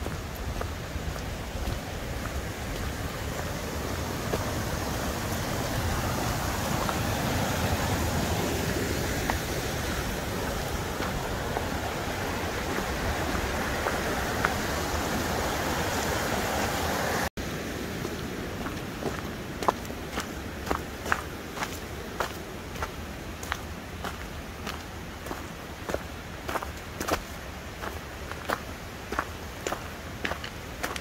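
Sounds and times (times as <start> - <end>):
footsteps on gravel: 0.0 - 14.9, 18.0 - 31.0
creek rushing over rocks: 0.0 - 31.0.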